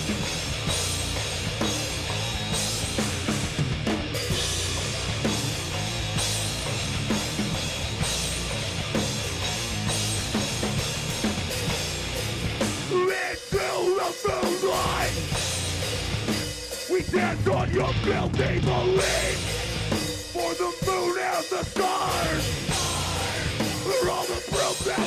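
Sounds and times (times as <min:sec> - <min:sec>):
drum beat: 0:00.0 - 0:25.0
guitar and bass wall: 0:00.0 - 0:25.0.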